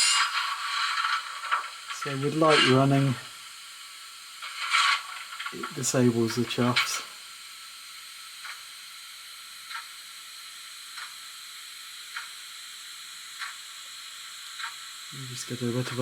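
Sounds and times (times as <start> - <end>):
steady steam hiss: 0.0 - 16.0.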